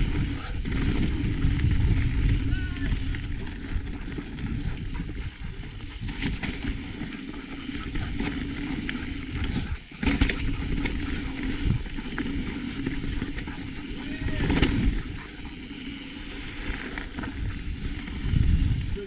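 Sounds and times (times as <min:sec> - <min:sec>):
bike frame and chain rattling: 0:00.0 - 0:19.0
wind rumbling on microphone: 0:00.0 - 0:19.0.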